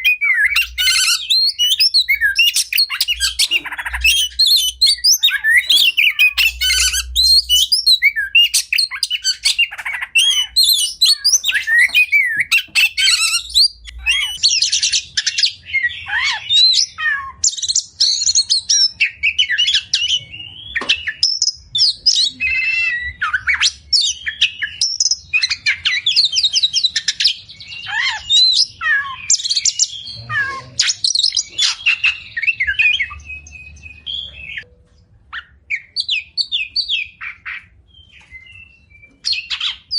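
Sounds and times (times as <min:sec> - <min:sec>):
magpie-robin singing: 0:00.0 - 0:34.7, 0:35.3 - 0:39.9.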